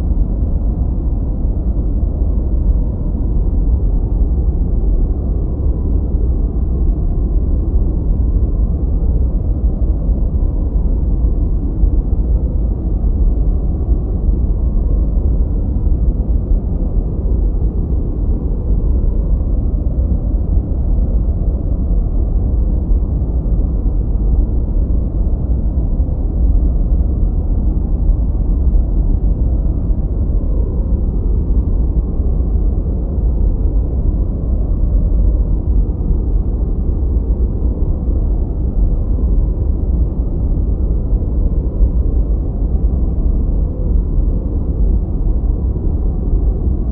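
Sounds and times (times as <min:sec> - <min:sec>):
deep muffled noise rumble: 0:00.0 - 0:46.9.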